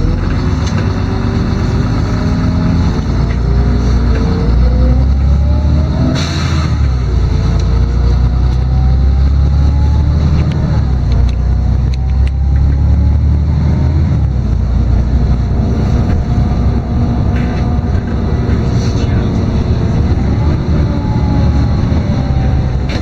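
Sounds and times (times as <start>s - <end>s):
bus diesel engine rumble and whine: 0.0s - 23.0s.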